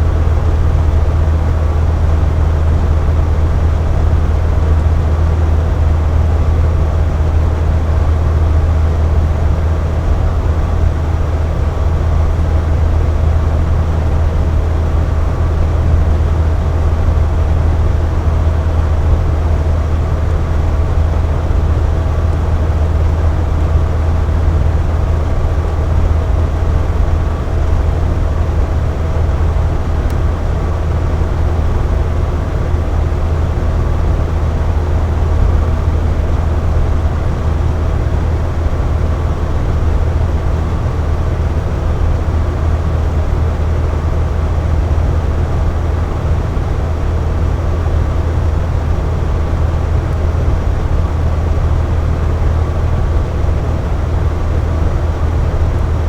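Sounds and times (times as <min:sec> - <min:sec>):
box fan running: 0:00.0 - 0:56.0.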